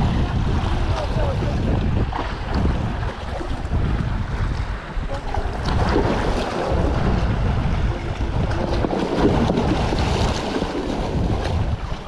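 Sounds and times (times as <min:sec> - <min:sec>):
sea waves washing against rocks: 0:00.0 - 0:12.0
wind buffeting microphone: 0:00.0 - 0:12.0.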